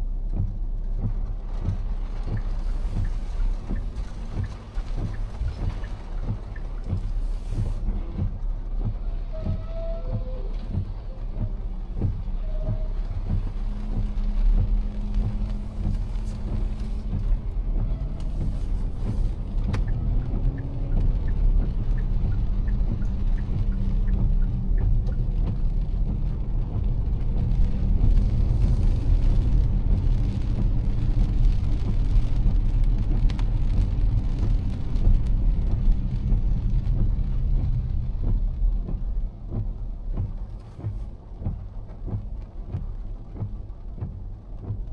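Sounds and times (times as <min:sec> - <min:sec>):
engine and tyres on wet road: 0:00.0 - 0:44.9
raindrops tapping on windshield: 0:00.0 - 0:44.9.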